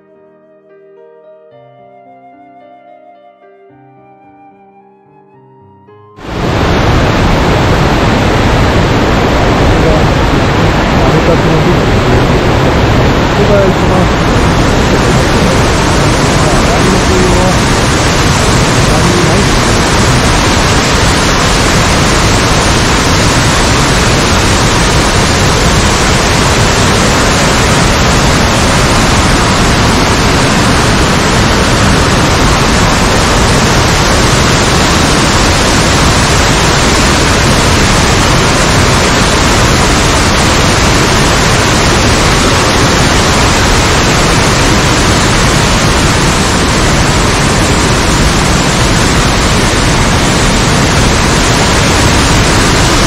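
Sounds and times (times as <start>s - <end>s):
waterfall rushing over rocks: 6.2s - 53.0s.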